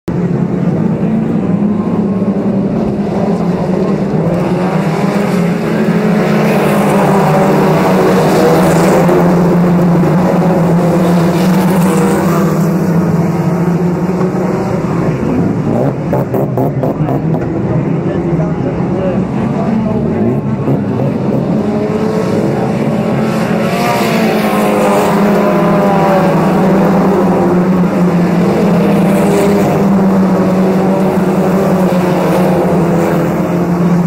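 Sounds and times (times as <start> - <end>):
race car engines running hard: 0.1 - 34.0.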